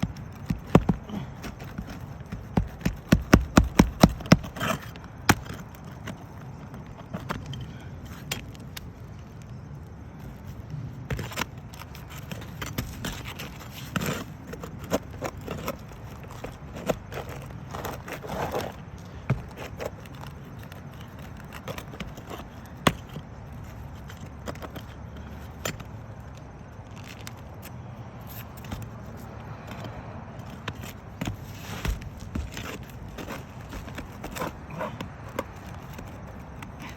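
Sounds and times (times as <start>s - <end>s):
hand tool scraping roof shingles: 0.0s - 9.4s, 10.1s - 36.9s.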